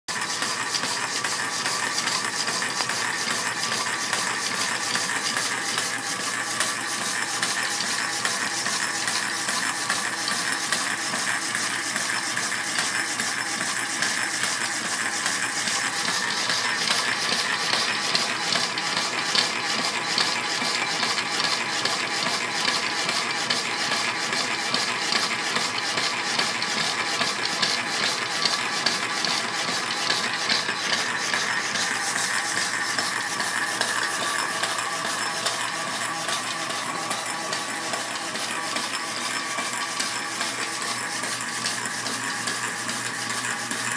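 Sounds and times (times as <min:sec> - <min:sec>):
power hacksaw sawing metal: 0:00.1 - 0:43.9.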